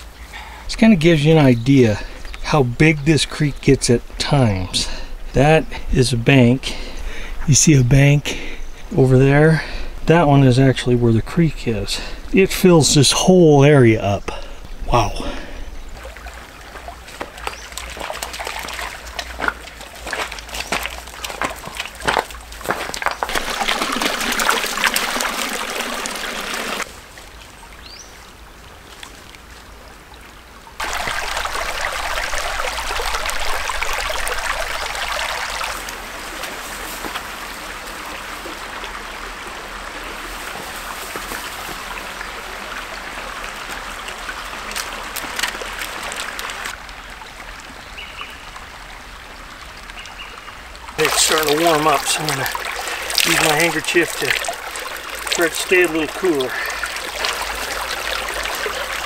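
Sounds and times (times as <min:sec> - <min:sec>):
creek trickling over stones: 0:00.0 - 0:59.0.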